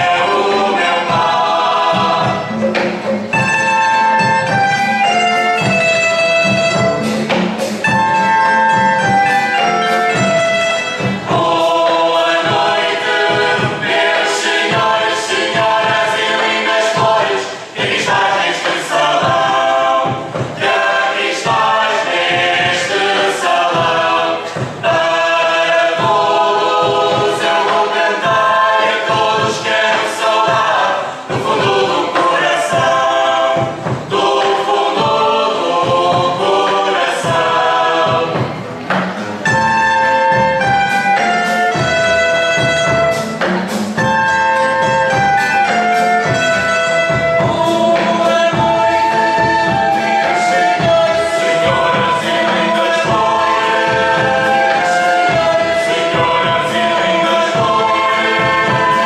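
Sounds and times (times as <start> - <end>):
instrumental accompaniment: 0.0 - 59.0
mixed choir singing: 0.0 - 59.0
sharp percussive strikes: 0.0 - 59.0.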